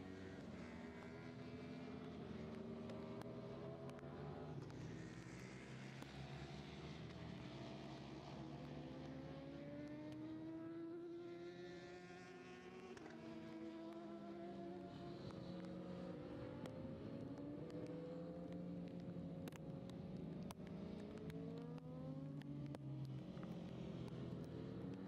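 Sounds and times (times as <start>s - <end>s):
racing motorcycle engines: 0.0s - 25.0s.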